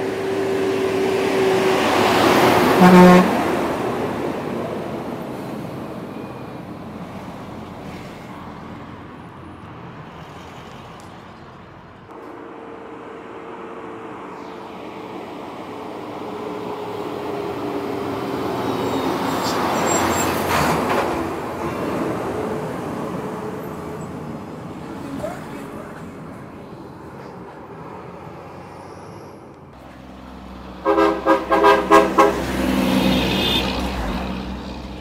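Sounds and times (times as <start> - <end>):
heavy truck passing: 0.0 - 35.0.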